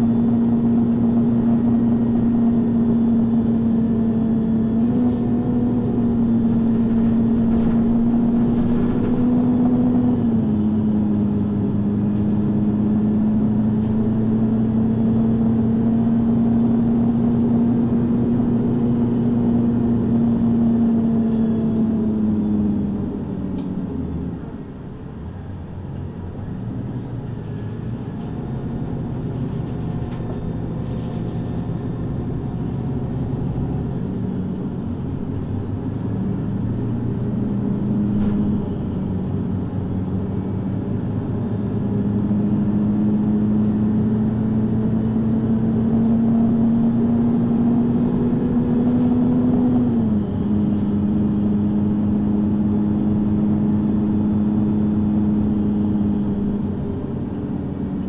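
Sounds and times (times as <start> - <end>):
bus engine pulling under load: 0.0 - 58.0.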